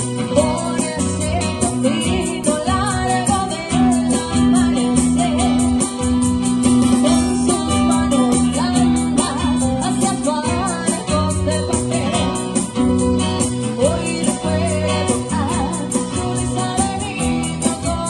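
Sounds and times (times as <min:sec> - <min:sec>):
guitar: 0:00.0 - 0:18.0
held bass line: 0:00.0 - 0:18.0
person singing: 0:00.0 - 0:18.0.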